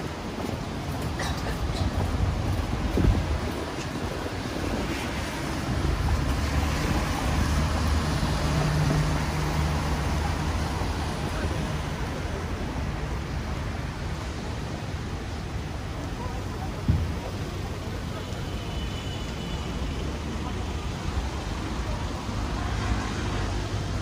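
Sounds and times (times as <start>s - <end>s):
tyres hissing on wet road: 0.0s - 24.0s.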